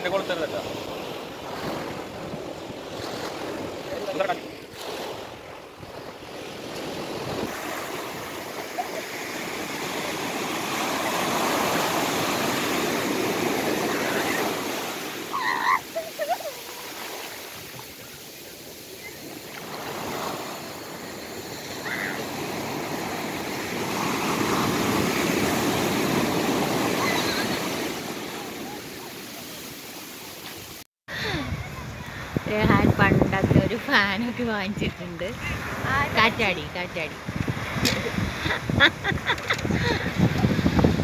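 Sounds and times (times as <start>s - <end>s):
surf breaking on beach: 0.0s - 41.0s.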